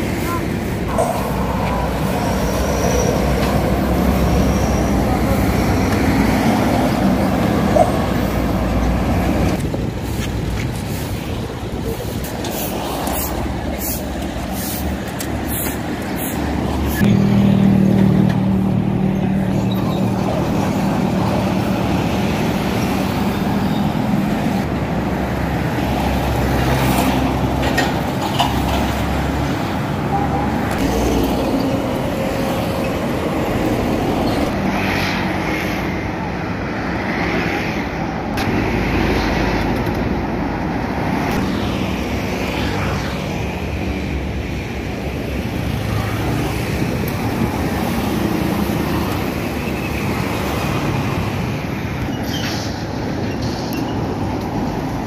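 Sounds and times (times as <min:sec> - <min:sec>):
passing road traffic: 0:00.0 - 0:55.0.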